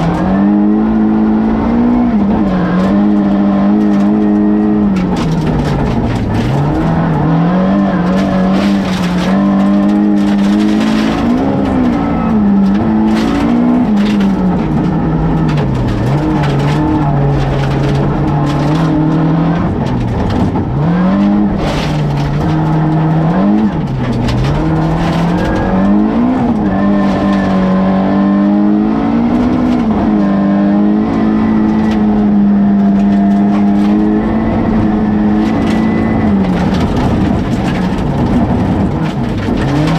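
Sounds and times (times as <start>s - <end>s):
rally car engine revving: 0.0s - 39.9s
tyres rumbling on gravel: 0.0s - 39.9s
knocks and clicks from rough surface: 2.4s - 27.7s, 31.1s - 39.9s.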